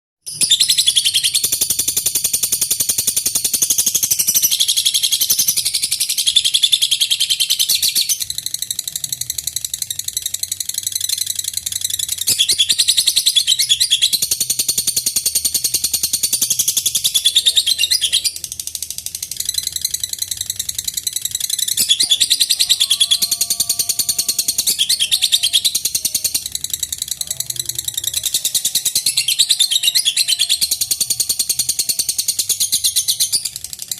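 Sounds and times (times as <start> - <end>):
lovebird chattering trill: 0.3 - 33.9.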